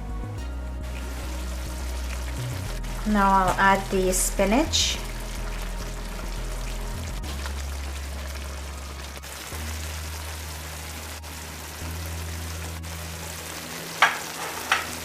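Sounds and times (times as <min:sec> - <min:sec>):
rice pot sizzling: 0:00.0 - 0:15.0
soft background music: 0:00.0 - 0:15.0.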